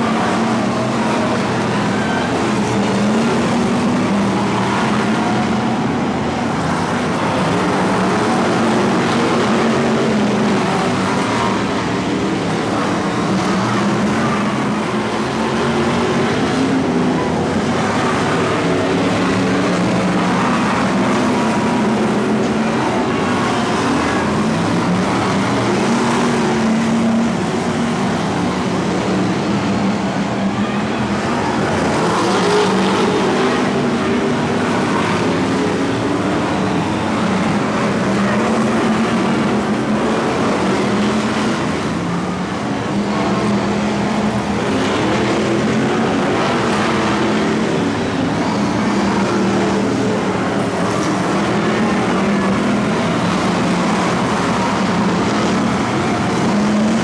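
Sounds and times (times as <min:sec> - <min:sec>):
racing car engines: 0:00.0 - 0:57.0.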